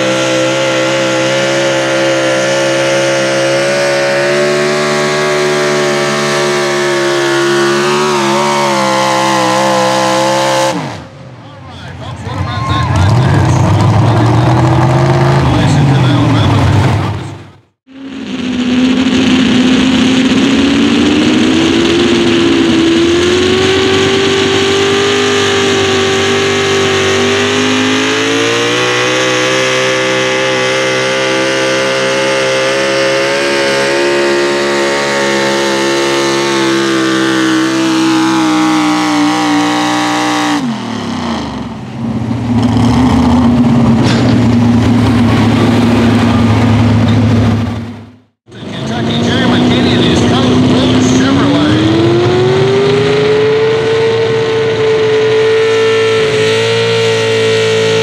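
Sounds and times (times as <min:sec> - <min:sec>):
lower steady engine note: 0:00.0 - 0:58.0
truck engine at full throttle: 0:00.0 - 0:58.0.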